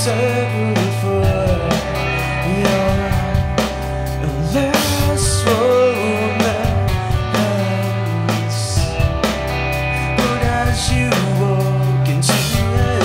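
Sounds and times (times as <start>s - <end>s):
bass guitar: 0.0s - 13.0s
distorted electric guitars: 0.0s - 13.0s
drum kit: 0.0s - 13.0s
man singing: 0.0s - 13.0s.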